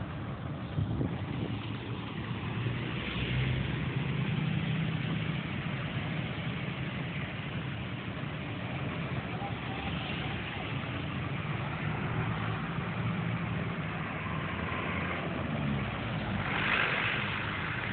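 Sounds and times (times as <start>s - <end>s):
road and traffic noise: 0.0s - 17.9s
vehicle engine humming: 0.0s - 17.9s.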